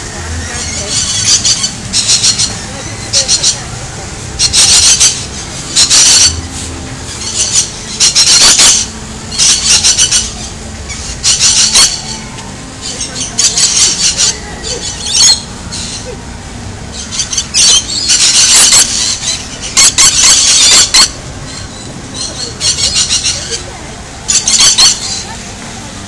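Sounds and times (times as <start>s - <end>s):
lorikeets screeching: 0.0s - 26.0s.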